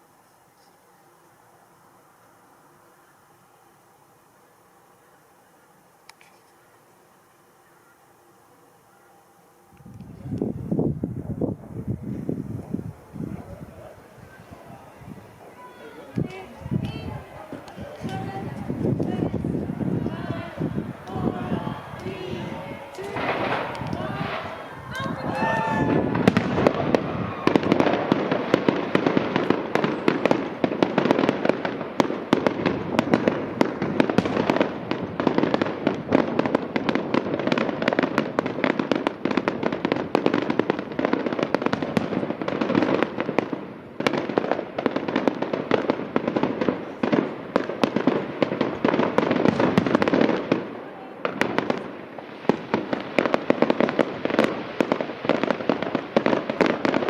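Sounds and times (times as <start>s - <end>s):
fireworks bangs and crackling: 9.4s - 57.0s.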